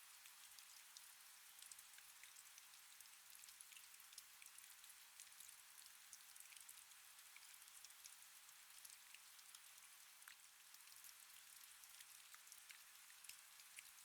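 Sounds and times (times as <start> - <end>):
faint rain: 0.0 - 14.0.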